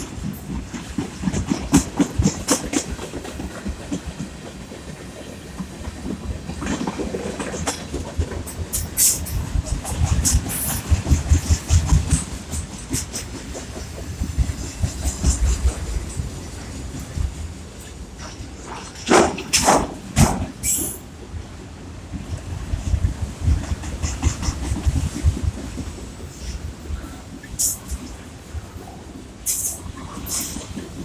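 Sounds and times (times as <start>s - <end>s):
low train rumble: 0.0s - 31.0s
train wheels clattering over rail joints: 0.0s - 31.0s.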